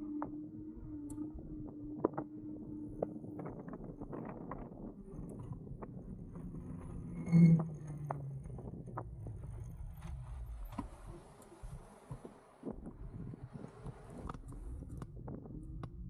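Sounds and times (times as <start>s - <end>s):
e-bike riding rumble: 0.0s - 16.0s.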